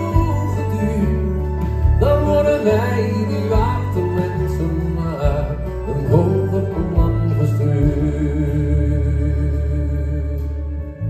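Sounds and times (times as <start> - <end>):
bass guitar: 0.0 - 11.0
drums: 0.0 - 11.0
strummed acoustic guitars: 0.0 - 11.0
violin melody with vibrato: 0.0 - 11.0.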